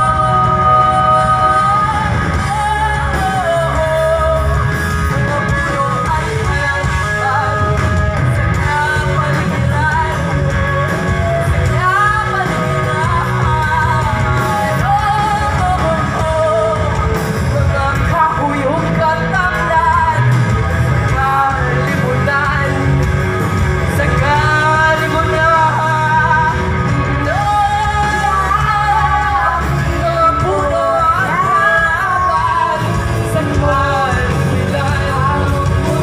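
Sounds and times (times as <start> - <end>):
woman singing: 0.0 - 20.5, 21.1 - 23.2, 23.9 - 36.0
live rock band: 0.0 - 36.0.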